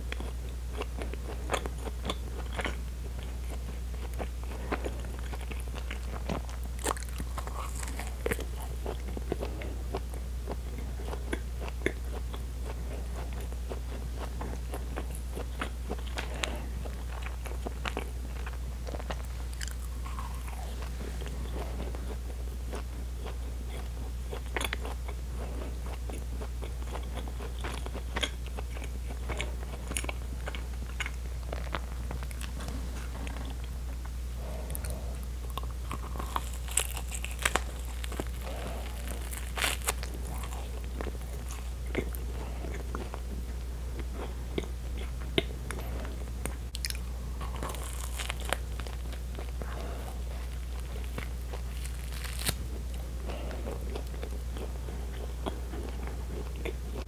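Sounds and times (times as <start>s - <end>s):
steady low hum: 0.0s - 57.0s
wet chewing mouth sounds: 0.1s - 57.0s.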